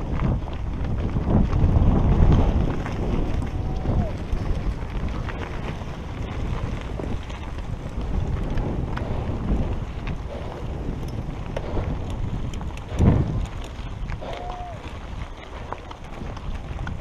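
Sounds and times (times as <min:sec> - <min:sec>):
bike rumbling over rocky ground: 0:00.0 - 0:17.0
wind buffeting microphone: 0:00.0 - 0:17.0.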